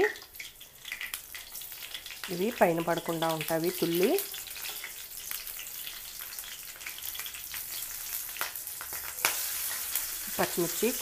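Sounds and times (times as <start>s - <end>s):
chillies sizzling in hot oil: 0.0s - 11.0s.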